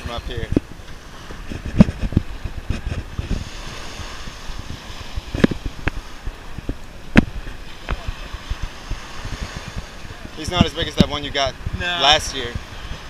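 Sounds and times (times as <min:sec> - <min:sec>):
small surf washing: 0:00.0 - 0:13.0
wind buffeting microphone: 0:00.0 - 0:13.0.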